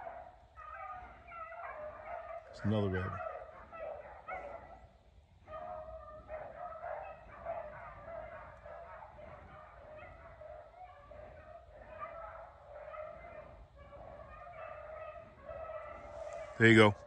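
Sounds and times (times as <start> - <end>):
hounds baying: 0.0 - 17.0.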